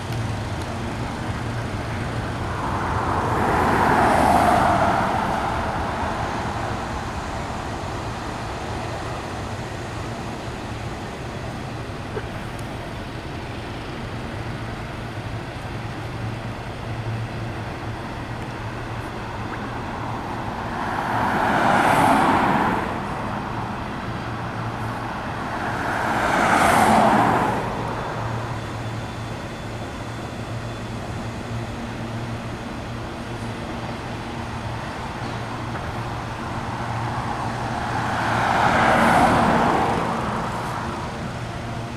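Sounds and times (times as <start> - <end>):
cars passing by: 0.0 - 41.9
steady low traffic rumble: 0.0 - 41.9.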